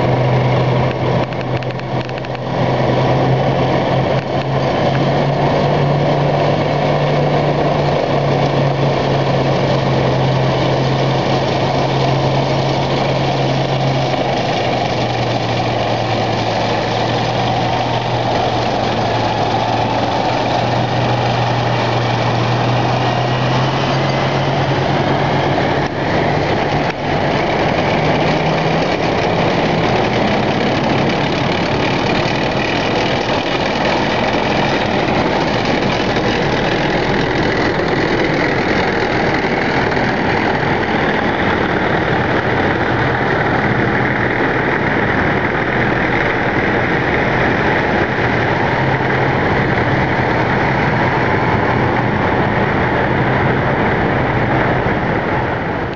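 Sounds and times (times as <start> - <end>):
tank tracks on road: 0.0 - 55.9
tracked vehicle engines droning: 0.0 - 55.9.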